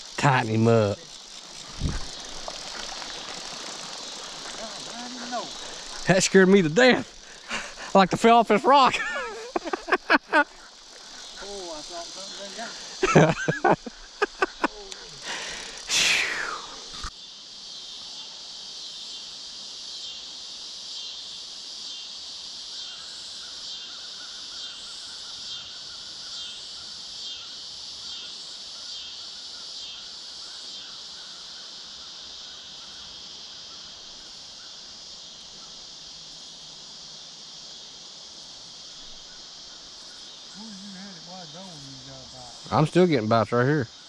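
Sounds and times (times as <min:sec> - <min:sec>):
low insect trill: 0:00.0 - 0:44.0
pulsing high-pitched insect buzzing: 0:00.0 - 0:44.0.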